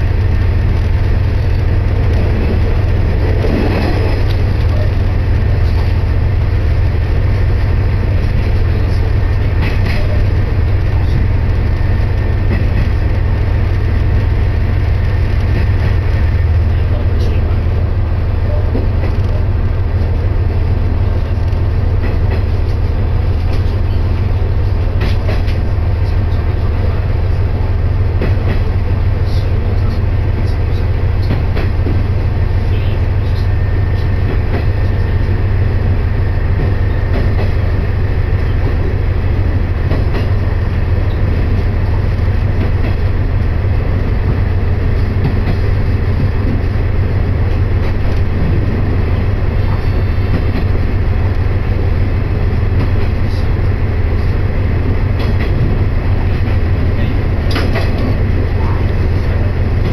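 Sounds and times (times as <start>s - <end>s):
railcar running hum: 0.0s - 59.9s.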